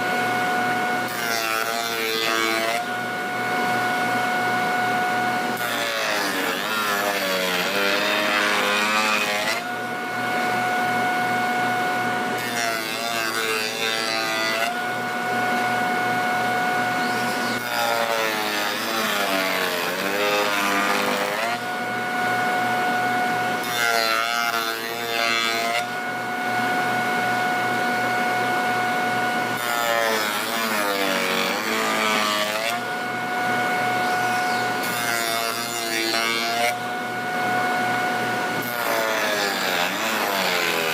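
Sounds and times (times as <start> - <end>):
power tool whining: 0.0 - 40.9
power tool cutting wood: 0.8 - 40.9.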